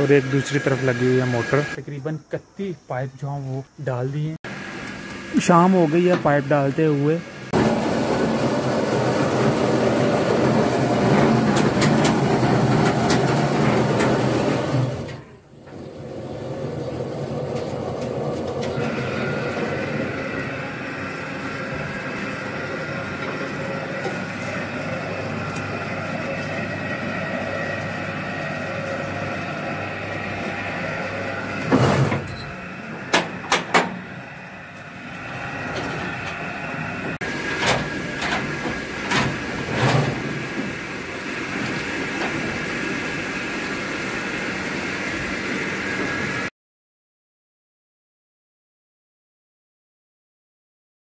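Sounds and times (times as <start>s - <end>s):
drilling rig motors humming: 0.0s - 46.5s.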